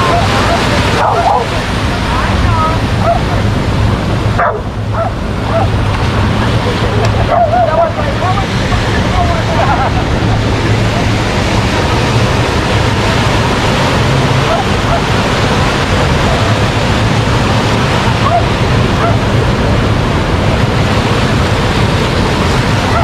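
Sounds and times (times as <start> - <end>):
ocean surf washing onto beach: 0.0 - 23.0
wind buffeting microphone: 0.0 - 23.0.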